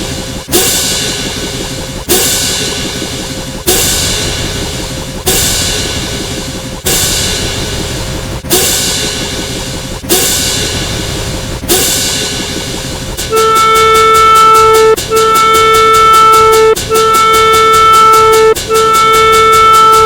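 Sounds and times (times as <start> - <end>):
buzzing tone with rapid clicks: 0.0 - 20.0
crash cymbal and drum hits: 0.0 - 20.0.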